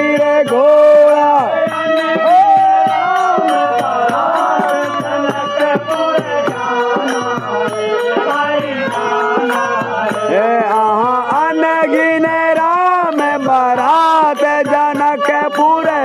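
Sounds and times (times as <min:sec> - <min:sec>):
hand drum beat: 0:00.0 - 0:16.0
man singing into microphone: 0:00.0 - 0:16.0.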